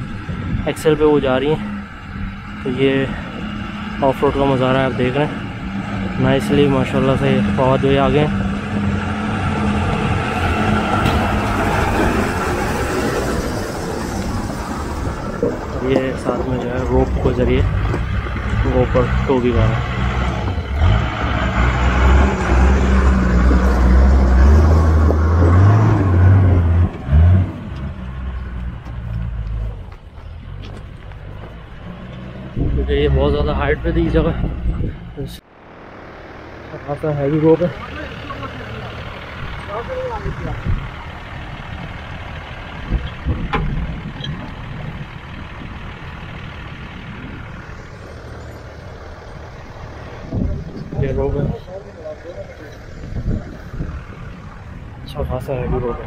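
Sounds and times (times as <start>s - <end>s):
engine working hard under load: 0.0s - 56.0s.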